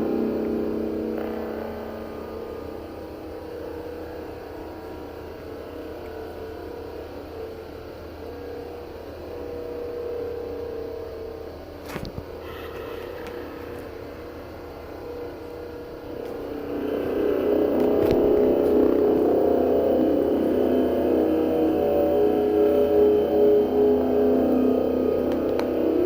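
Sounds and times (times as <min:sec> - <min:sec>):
low horn-like drone: 0:00.0 - 0:26.0.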